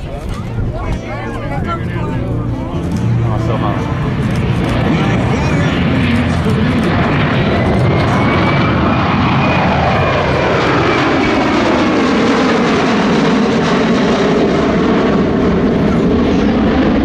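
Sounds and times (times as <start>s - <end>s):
jet aircraft passing overhead: 0.0s - 17.0s.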